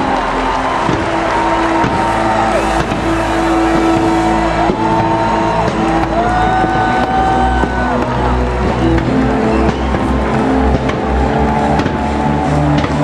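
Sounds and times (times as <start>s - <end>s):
loud music over loudspeakers: 0.0s - 13.0s
stadium crowd cheering: 0.0s - 13.0s.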